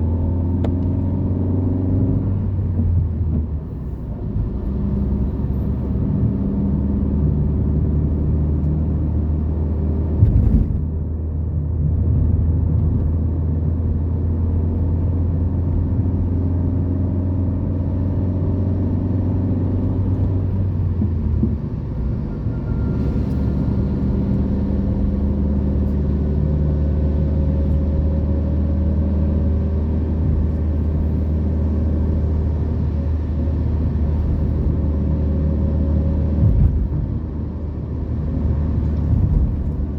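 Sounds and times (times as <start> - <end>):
car engine driving: 0.0 - 39.9
road rumble: 0.0 - 39.9.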